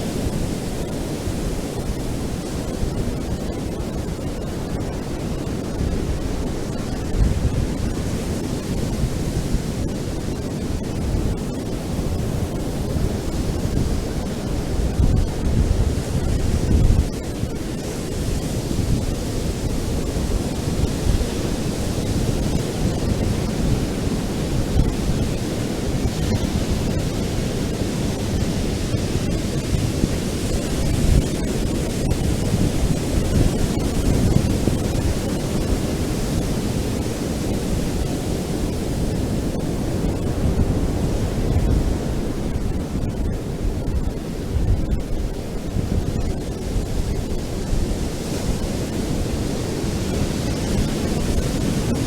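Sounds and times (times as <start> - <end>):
surf washing onto beach: 0.0 - 52.0
wind rumble on microphone: 0.0 - 52.0.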